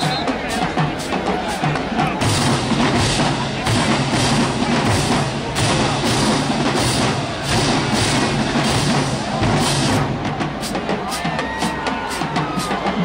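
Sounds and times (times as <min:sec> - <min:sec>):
drums beating: 0:00.0 - 0:13.0
marching band music: 0:00.0 - 0:13.0.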